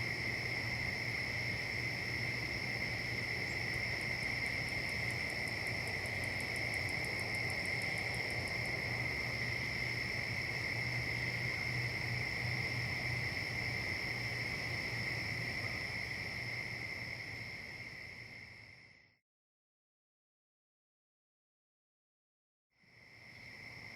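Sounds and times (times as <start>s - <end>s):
high pulsing insect chirp: 0.0s - 19.2s, 22.8s - 23.9s
insects trilling: 0.0s - 19.2s, 22.8s - 23.9s.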